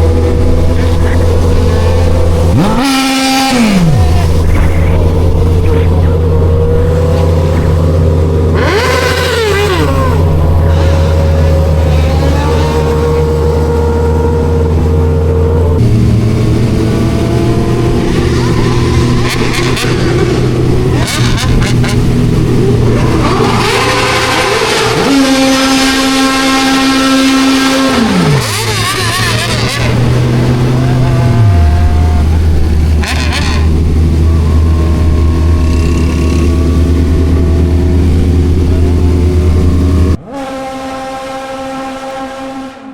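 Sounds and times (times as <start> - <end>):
motorcycle engine running: 0.0 - 40.2.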